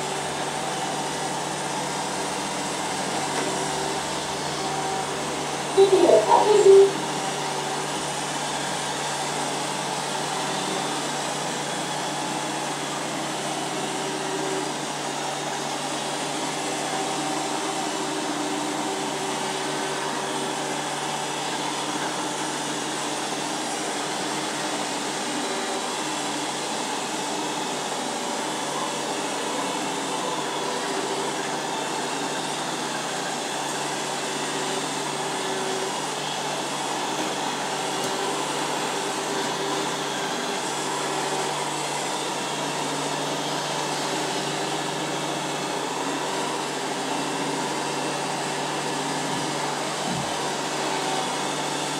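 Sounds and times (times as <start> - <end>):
robot vacuum cleaner whirring: 0.0 - 51.9.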